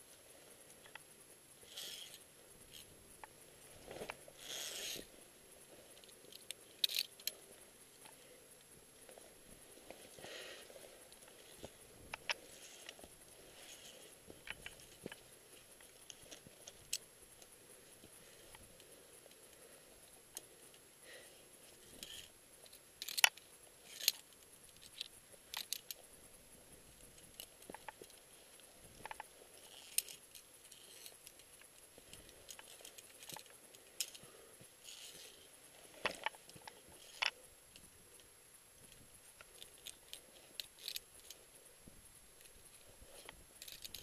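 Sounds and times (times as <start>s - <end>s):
carabiners clinking on steel cable: 1.6s - 5.2s, 5.9s - 8.2s, 9.0s - 20.8s, 21.8s - 26.2s, 27.0s - 37.5s, 38.9s - 41.5s, 42.4s - 44.0s.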